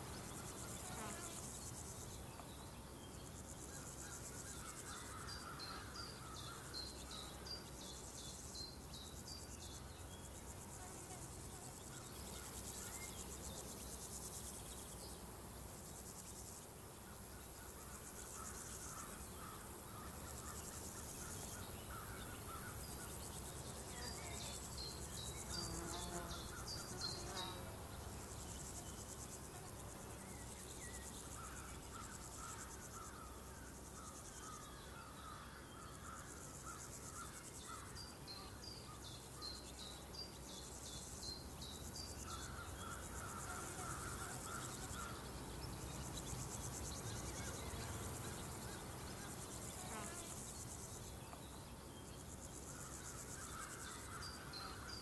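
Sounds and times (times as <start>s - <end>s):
crickets chirping: 0.0s - 55.0s
pulsing insect trills: 0.0s - 55.0s.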